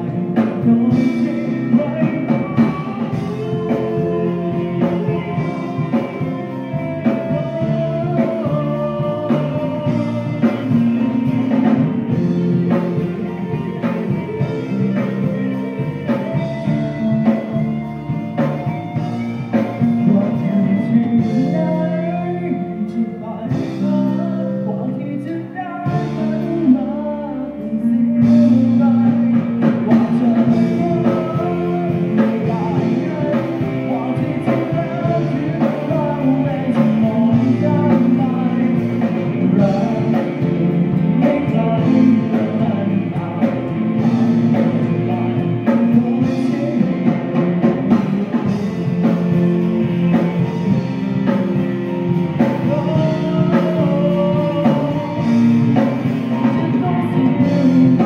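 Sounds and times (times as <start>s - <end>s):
drums and cymbals: 0.0s - 24.4s, 25.8s - 27.0s, 28.0s - 58.0s
bass guitar: 0.0s - 58.0s
electric guitars: 0.0s - 58.0s
man singing: 0.0s - 58.0s.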